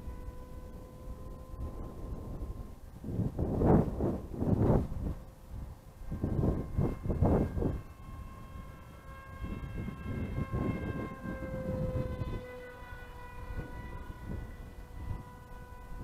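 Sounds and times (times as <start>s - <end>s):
rc plane motor whining: 0.0s - 16.0s
wind buffeting microphone: 0.0s - 16.0s.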